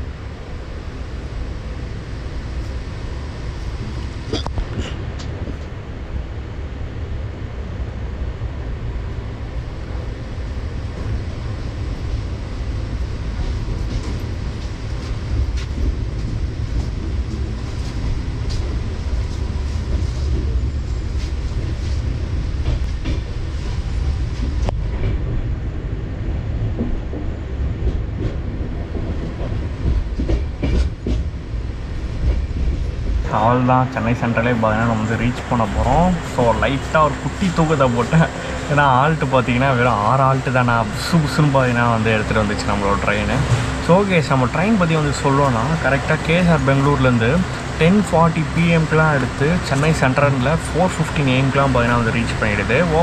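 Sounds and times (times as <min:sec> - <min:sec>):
train rumbling along track: 0:00.0 - 0:53.0.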